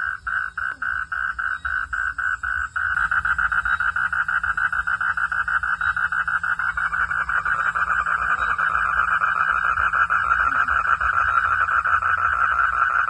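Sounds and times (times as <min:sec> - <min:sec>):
frogs calling: 0:00.0 - 0:13.0.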